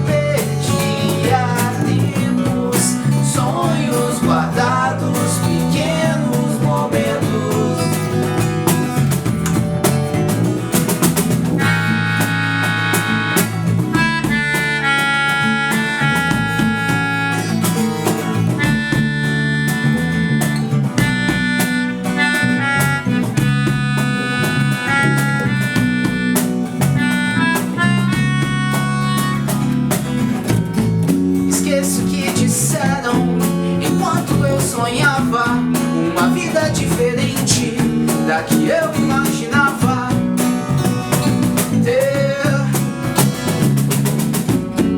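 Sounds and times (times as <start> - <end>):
high lead melody: 0.0 - 32.2, 33.0 - 44.9
pop-rock band playing: 0.0 - 44.9.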